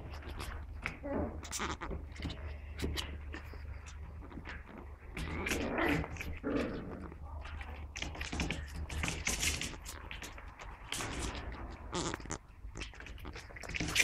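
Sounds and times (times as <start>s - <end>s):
puppy vocal sounds: 0.0s - 14.0s.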